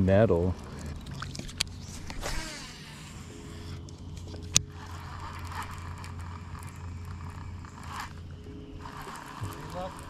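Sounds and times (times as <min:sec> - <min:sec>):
faint steady hum: 0:00.0 - 0:10.0
fishing reel retrieve: 0:00.5 - 0:10.0.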